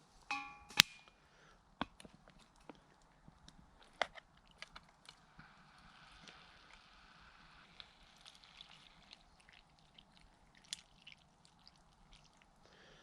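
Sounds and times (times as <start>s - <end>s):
small wood fire crackling: 0.0s - 13.0s.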